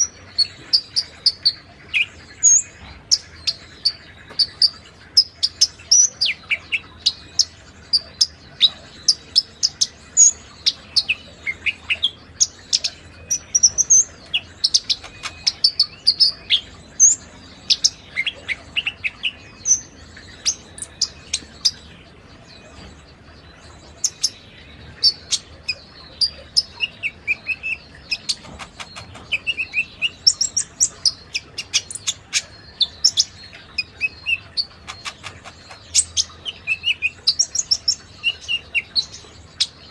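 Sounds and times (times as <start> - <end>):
songbird chirping and singing: 0.0 - 39.9.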